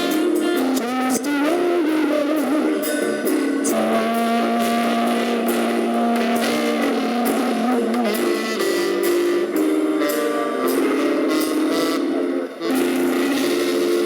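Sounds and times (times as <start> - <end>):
drum and cymbal strokes: 0.0 - 14.0
guitar melody notes: 0.0 - 14.0
jazz band playing: 0.0 - 14.0.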